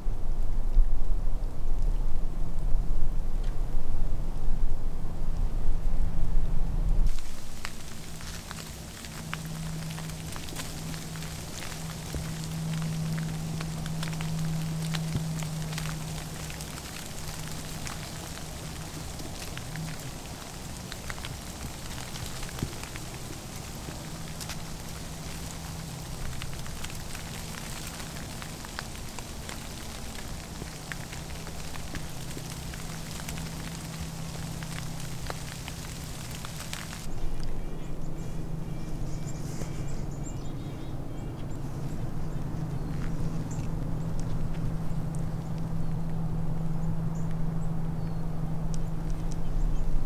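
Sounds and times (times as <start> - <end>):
steady low hum: 0.0 - 50.0
wet snow pattering on leaves: 7.0 - 50.0.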